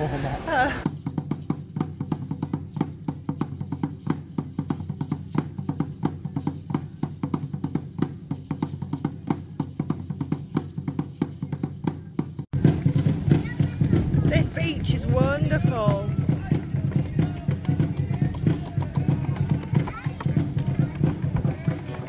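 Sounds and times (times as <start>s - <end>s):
drumming with rattling percussion: 0.6s - 22.0s.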